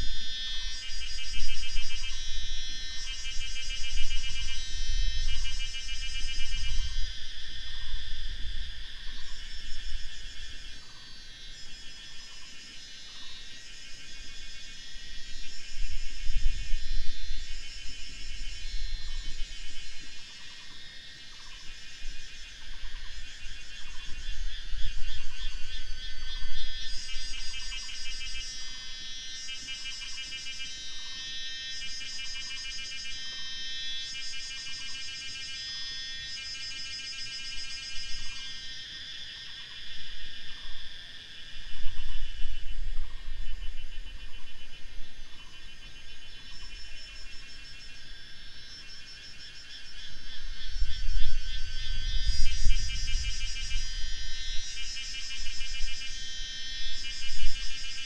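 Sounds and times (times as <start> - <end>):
insects shrilling: 0.0 - 58.0.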